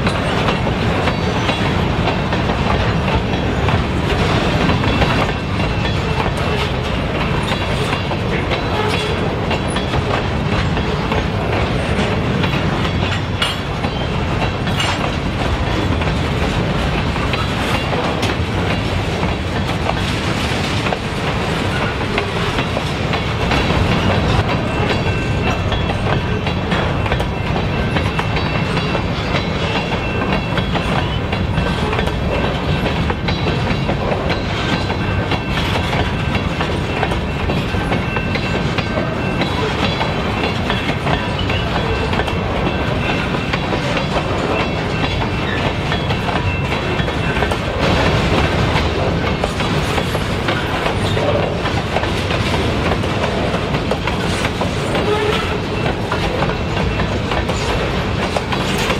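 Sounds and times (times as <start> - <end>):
train cars rumbling and rattling: 0.0 - 58.9
wheels clacking on rail joints: 0.0 - 58.9.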